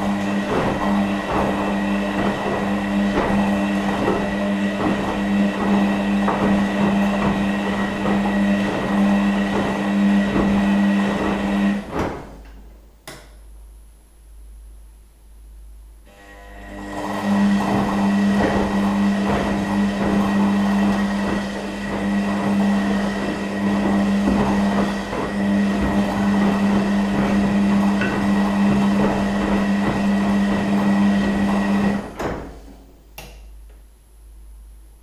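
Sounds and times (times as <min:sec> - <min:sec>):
laundry and water sloshing: 0:00.0 - 0:12.5, 0:16.6 - 0:32.8
washing machine motor humming: 0:00.0 - 0:35.0.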